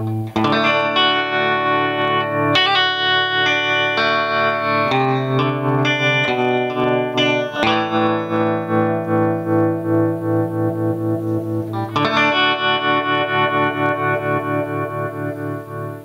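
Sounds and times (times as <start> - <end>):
electric guitar with tremolo: 0.0 - 16.0.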